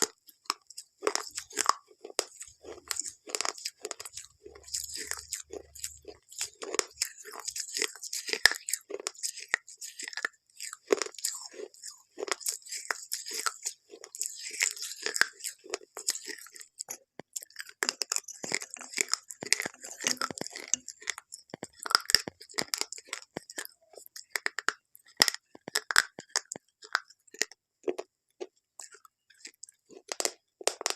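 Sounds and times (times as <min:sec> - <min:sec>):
crunching of brittle food chewed: 0:00.0 - 0:30.9.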